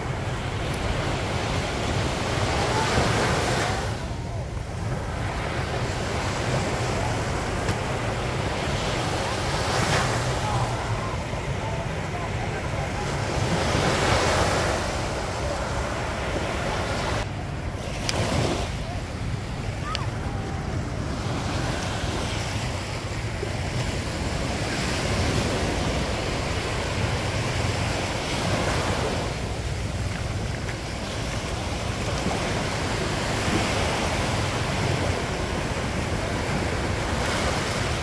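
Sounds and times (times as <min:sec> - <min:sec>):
waves washing onto sandy beach: 0:00.0 - 0:38.0.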